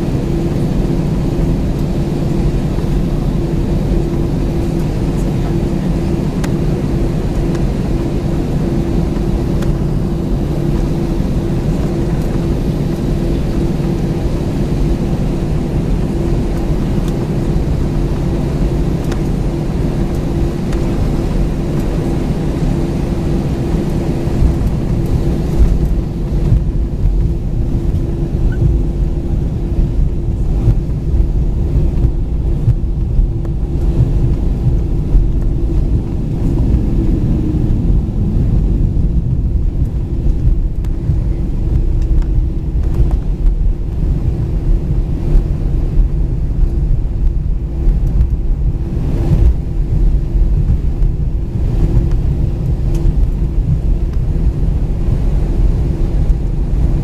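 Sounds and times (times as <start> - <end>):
steady engine hum: 0.0 - 57.0
wheels rolling low rumble: 0.0 - 57.0.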